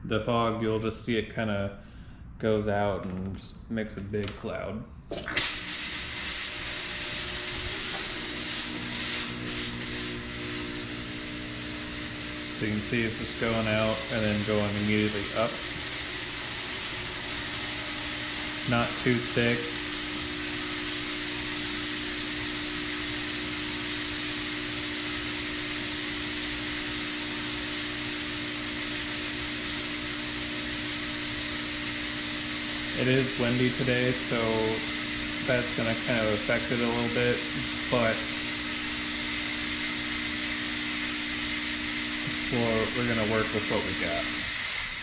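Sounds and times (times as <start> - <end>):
steady hum: 4.7 - 45.0
fog machine hissing: 5.2 - 45.0.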